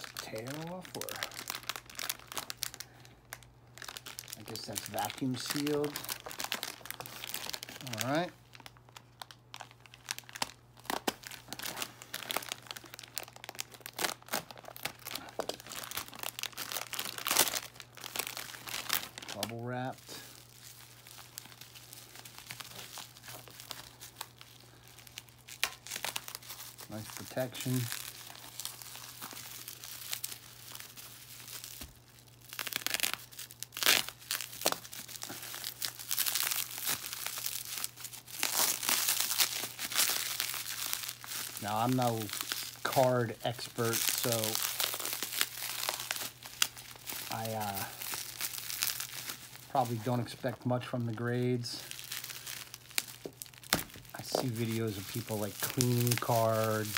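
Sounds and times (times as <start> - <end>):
foil pouch crinkling: 0.0 - 56.9.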